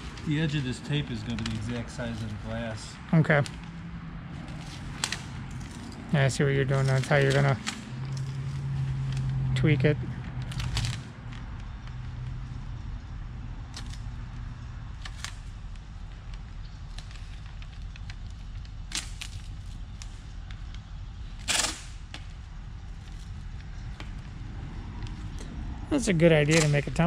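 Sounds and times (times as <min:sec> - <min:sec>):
masking tape crackling and tearing: 0:00.0 - 0:09.6, 0:10.2 - 0:27.0.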